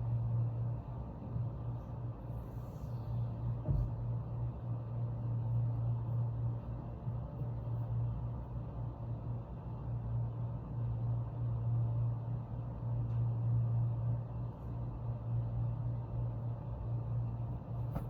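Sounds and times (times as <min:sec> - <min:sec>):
low droning hum: 0:00.0 - 0:18.0.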